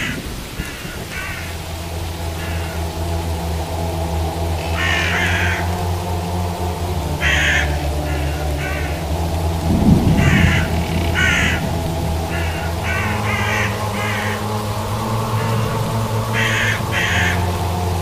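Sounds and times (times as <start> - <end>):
crows cawing: 0.0 - 18.0
eerie music drone: 0.0 - 18.0
low thunder rumble: 0.0 - 18.0.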